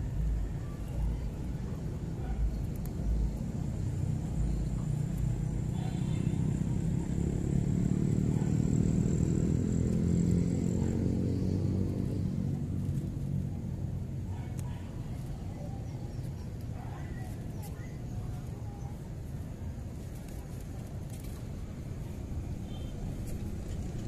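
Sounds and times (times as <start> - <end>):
passing vehicle engine rumble: 0.0 - 24.0.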